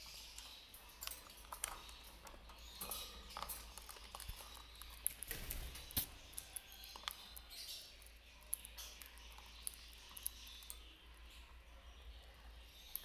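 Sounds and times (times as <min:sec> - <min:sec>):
birds clicking at seed bowl: 0:00.0 - 0:13.0.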